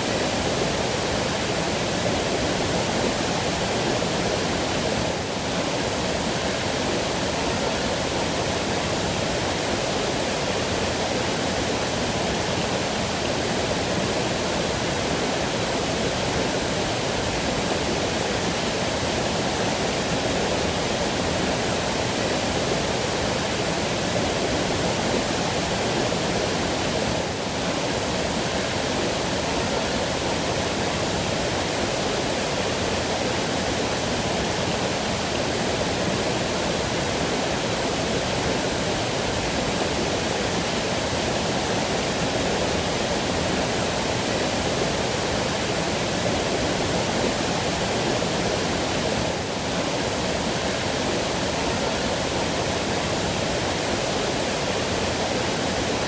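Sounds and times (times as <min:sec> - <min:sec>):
waterfall: 0:00.0 - 0:56.0.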